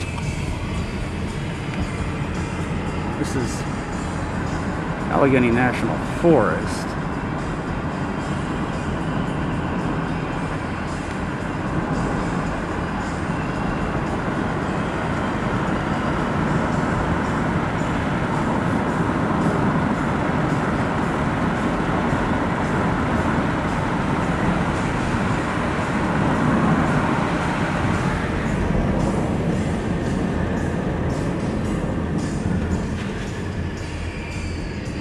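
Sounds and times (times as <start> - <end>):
car tyre and engine noise: 0.0 - 35.0.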